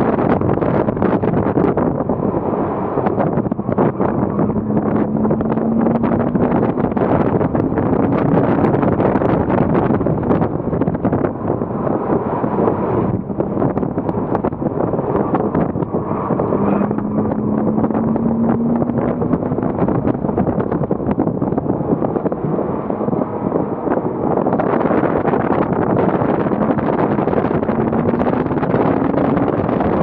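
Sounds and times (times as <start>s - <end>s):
car engine running hard: 0.0s - 30.0s
wind buffeting on microphone: 0.0s - 30.0s.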